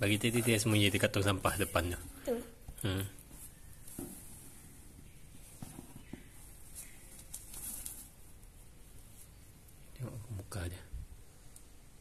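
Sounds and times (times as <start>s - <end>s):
faint rustling: 0.0s - 10.6s.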